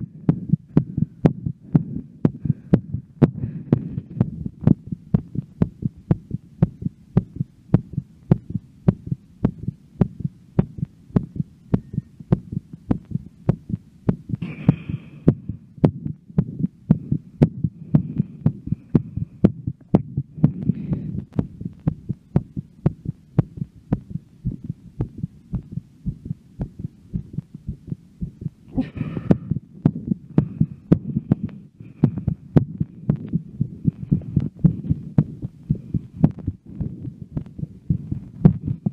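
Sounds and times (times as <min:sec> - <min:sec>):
fast heartbeat thumping: 0:00.0 - 0:38.9.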